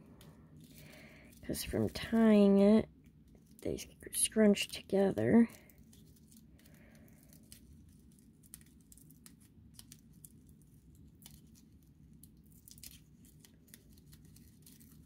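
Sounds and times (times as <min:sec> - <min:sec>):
dry raffia crackling and rustling: 0:00.1 - 0:15.0.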